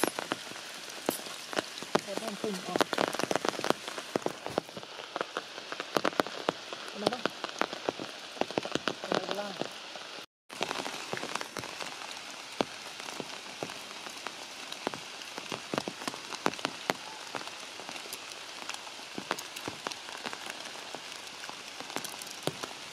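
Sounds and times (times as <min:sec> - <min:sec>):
rain dripping on leaves: 0:00.0 - 0:22.9.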